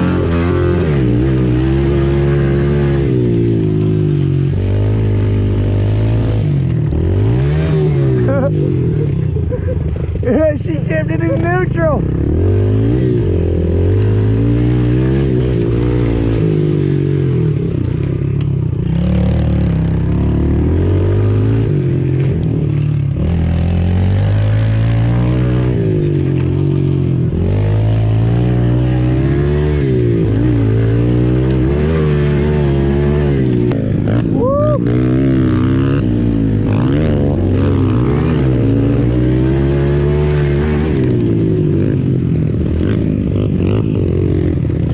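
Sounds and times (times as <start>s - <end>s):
pit bike engine revving: 0.0s - 44.9s.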